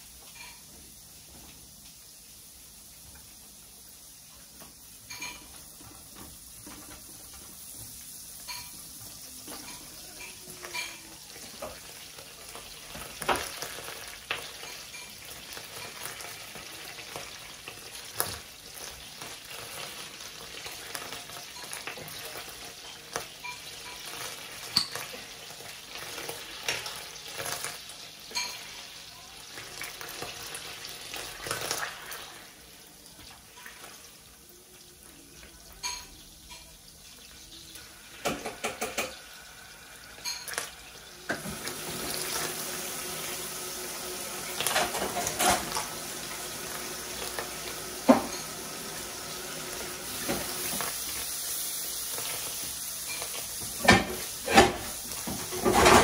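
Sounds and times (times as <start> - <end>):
butter and oil sizzling: 0.0 - 56.0.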